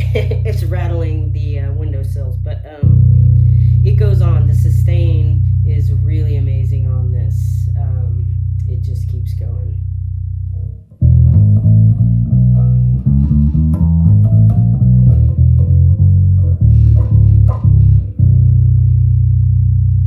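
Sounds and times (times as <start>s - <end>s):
electric bass plucked notes: 0.0s - 20.0s.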